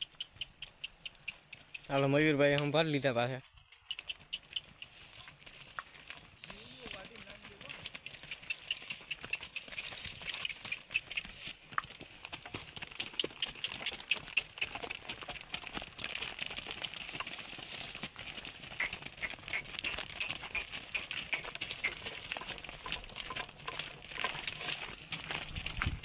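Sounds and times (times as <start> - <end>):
hoof steps on dirt: 0.0 - 2.8, 3.4 - 26.0
people's footsteps: 4.2 - 26.0.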